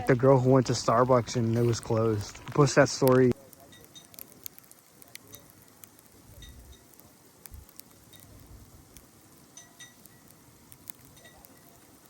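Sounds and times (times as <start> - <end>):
faint ticks: 2.3 - 12.0.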